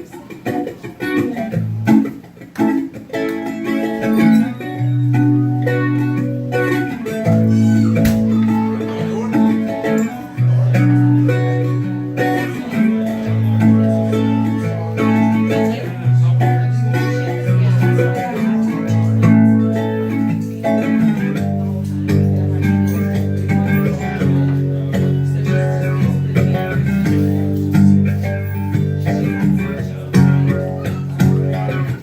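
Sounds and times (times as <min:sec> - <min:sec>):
guitar chords: 0:00.0 - 0:32.0
bass guitar notes: 0:03.9 - 0:32.0.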